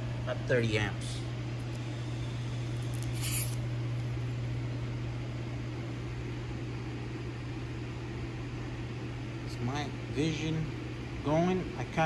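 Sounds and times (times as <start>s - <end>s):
fan whir: 0.0s - 12.0s
inverter electrical hum: 0.0s - 12.0s.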